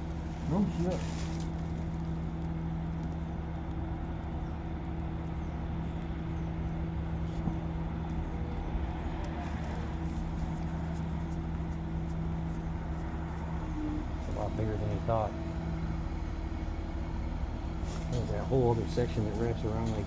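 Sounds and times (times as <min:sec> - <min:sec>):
crane engine droning: 0:00.0 - 0:20.0.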